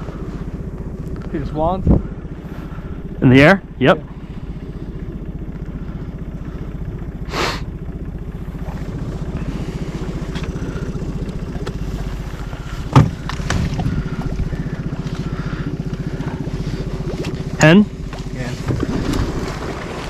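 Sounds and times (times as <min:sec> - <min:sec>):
small boat motor running: 0:00.0 - 0:20.0.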